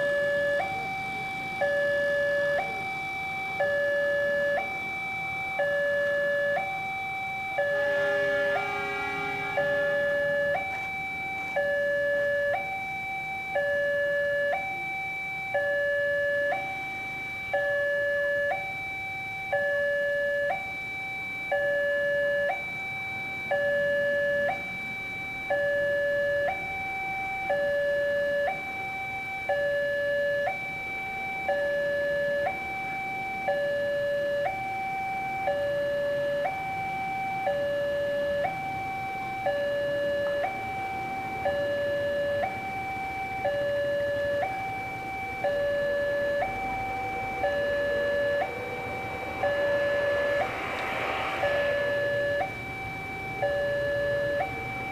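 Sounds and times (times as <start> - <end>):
two-tone crossing warning alarm: 0.0 - 54.9.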